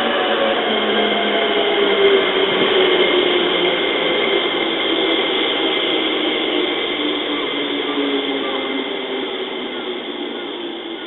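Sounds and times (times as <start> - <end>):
electric train rumbling slowly: 0.0 - 11.0.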